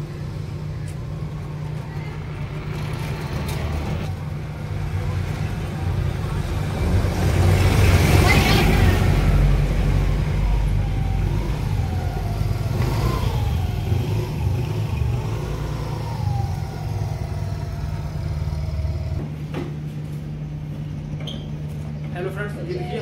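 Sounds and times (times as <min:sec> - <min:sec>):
scooter engine running: 0:00.0 - 0:19.2.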